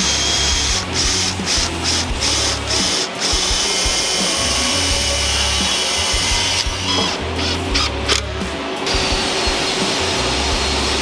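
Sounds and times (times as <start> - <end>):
cordless drill boring into wood: 0.0 - 8.2, 8.9 - 11.0.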